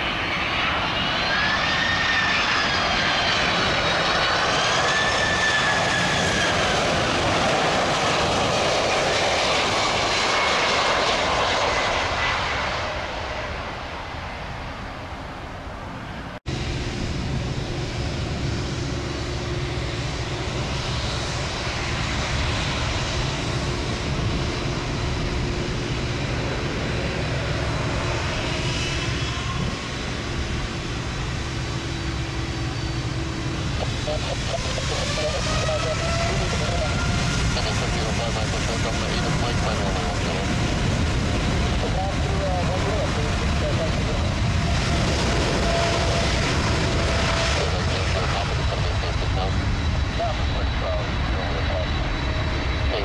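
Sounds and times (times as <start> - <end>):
jet engines taxiing rumble: 0.0 - 53.0
jet on approach: 0.0 - 53.0.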